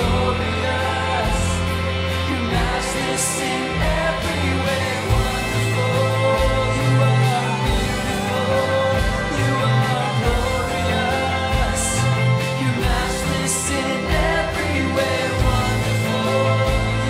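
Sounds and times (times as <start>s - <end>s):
bass line: 0.0s - 17.0s
voices singing: 0.0s - 17.0s
worship band playing: 0.0s - 17.0s.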